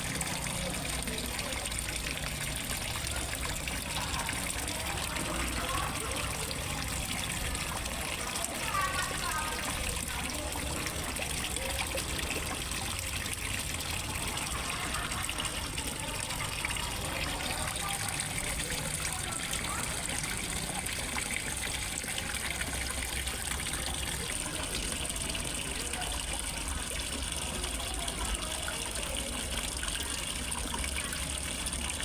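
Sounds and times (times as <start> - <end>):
water trickling into a pond: 0.0 - 32.0.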